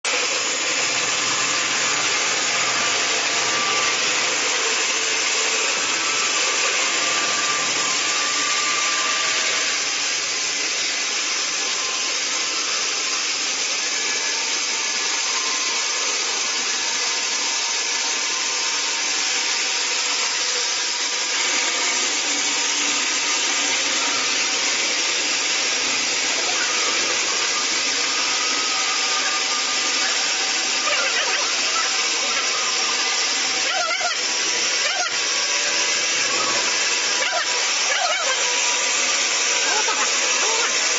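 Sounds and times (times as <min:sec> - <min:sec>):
band saw cutting log: 0:00.0 - 0:40.9
sawmill machine running: 0:00.0 - 0:40.9.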